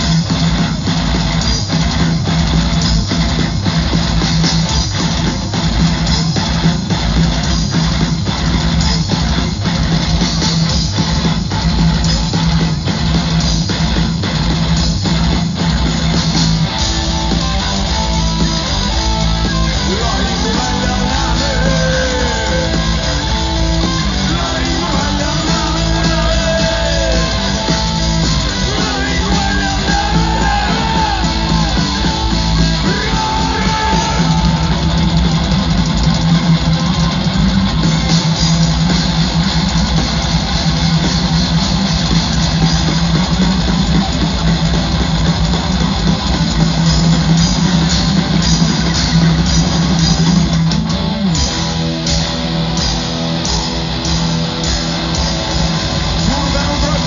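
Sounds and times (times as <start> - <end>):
heavy metal band playing: 0.0 - 57.0.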